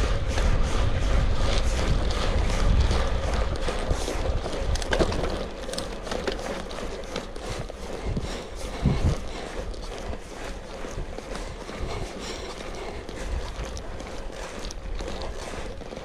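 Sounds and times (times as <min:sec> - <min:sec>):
bike rattling with small clicks: 0:00.0 - 0:16.0
bike tyres crunching on gravel: 0:00.0 - 0:16.0
wind rumble on microphone: 0:00.0 - 0:16.0.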